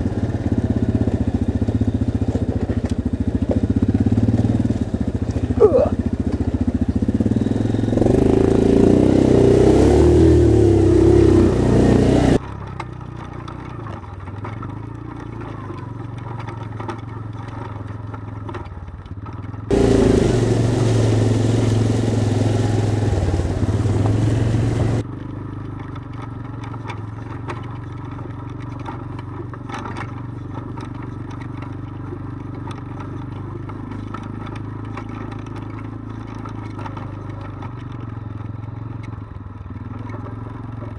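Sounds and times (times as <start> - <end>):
atv engine at low revs: 0.0 - 40.9.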